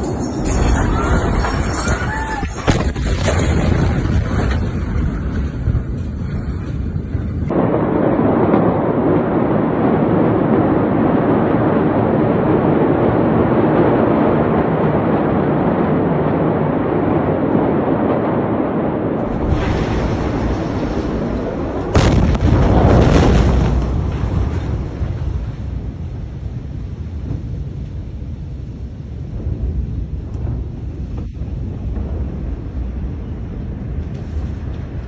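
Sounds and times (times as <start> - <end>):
noisy rumbling: 0.0 - 35.0.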